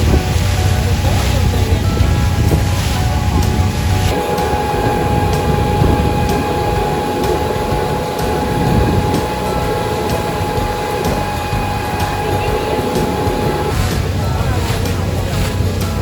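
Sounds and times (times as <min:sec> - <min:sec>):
boat engine rumble and whine: 0:00.0 - 0:16.0
water noise: 0:00.0 - 0:16.0
wind: 0:00.0 - 0:16.0.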